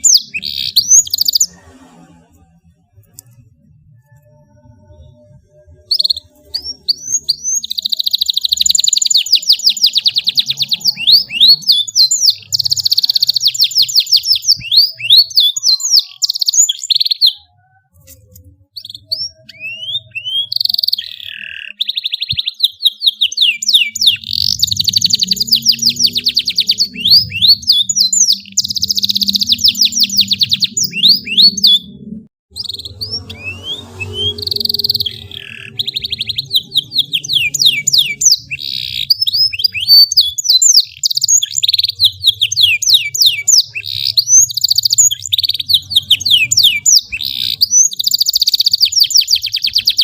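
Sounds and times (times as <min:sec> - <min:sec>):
canary singing trills: 0:00.0 - 0:02.4, 0:03.0 - 0:50.0.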